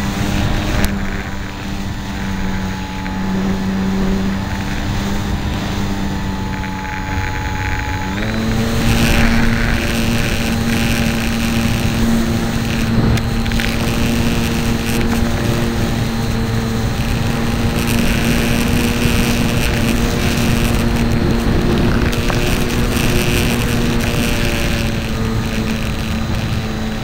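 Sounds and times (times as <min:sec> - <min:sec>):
electric motor whine: 0:00.0 - 0:27.0
wind on microphone: 0:00.0 - 0:27.0.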